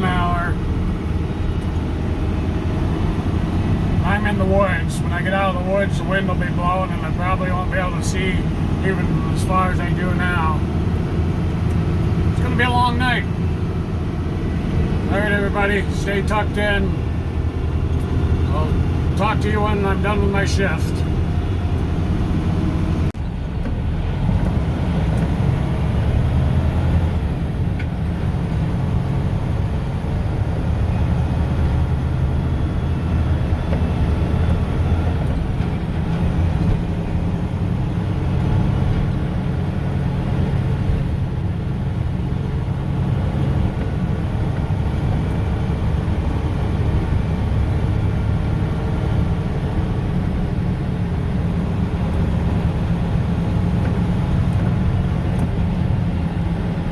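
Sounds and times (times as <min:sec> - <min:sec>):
road noise: 0:00.0 - 0:56.9
truck diesel engine drone: 0:00.0 - 0:56.9.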